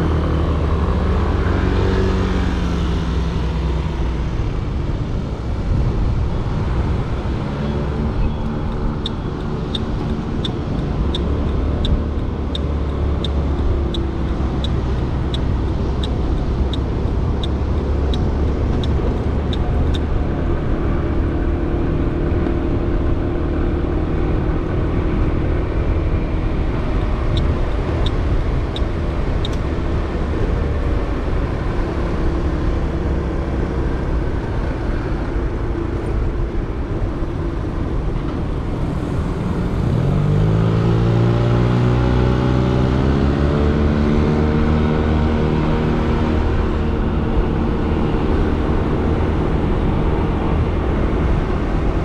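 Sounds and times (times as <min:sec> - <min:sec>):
wind rumble: 0:00.0 - 0:52.0.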